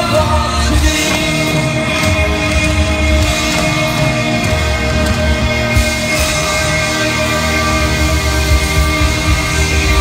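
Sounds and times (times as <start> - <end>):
drum kits playing together: 0.0 - 10.0
sustained instrumental notes: 0.0 - 10.0.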